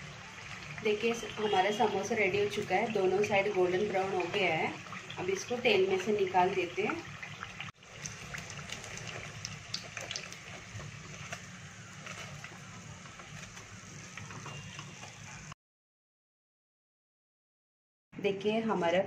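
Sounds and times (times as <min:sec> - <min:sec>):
hot oil sizzling and popping: 0:00.0 - 0:15.6.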